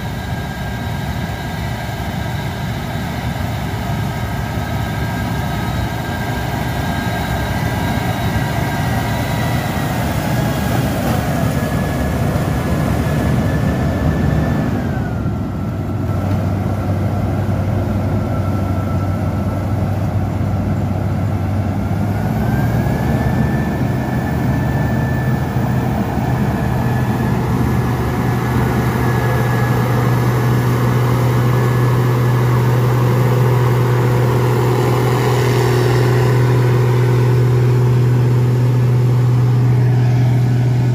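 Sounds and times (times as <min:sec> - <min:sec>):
diesel engine drone: 0:00.0 - 0:40.9
high machine whine: 0:00.0 - 0:40.9.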